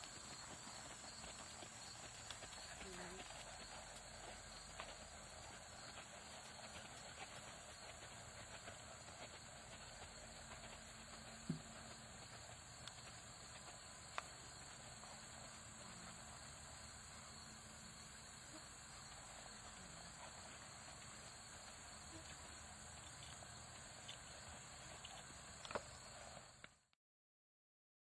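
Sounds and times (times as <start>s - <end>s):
faint outdoor hiss: 0.0s - 26.9s.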